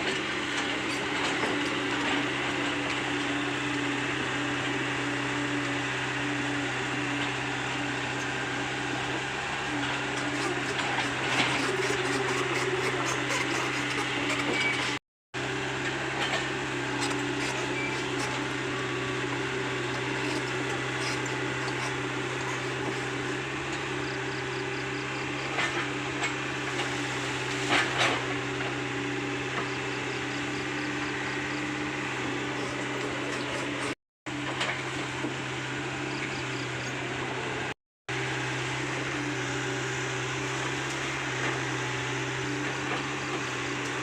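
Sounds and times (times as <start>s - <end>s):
excavator diesel engine droning: 0.0s - 44.0s.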